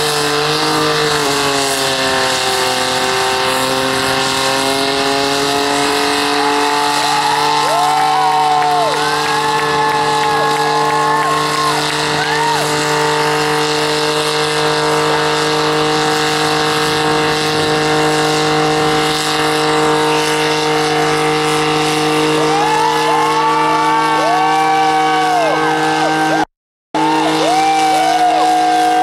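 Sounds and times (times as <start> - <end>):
car engines at high revs: 0.0 - 29.0
engine revving: 0.0 - 29.0.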